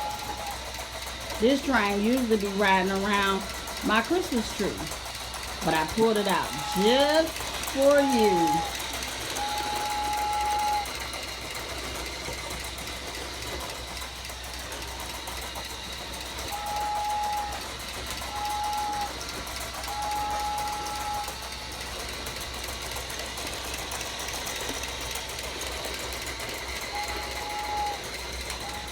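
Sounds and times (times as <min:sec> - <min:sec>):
toy train motor whirring: 0:00.0 - 0:28.9
toy train whistle: 0:00.0 - 0:28.9
train clicking on track: 0:00.0 - 0:28.9.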